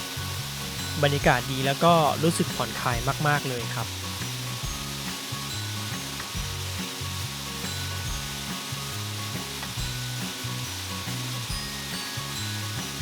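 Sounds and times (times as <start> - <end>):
background music: 0.0 - 13.0
waterfall rushing: 0.0 - 13.0.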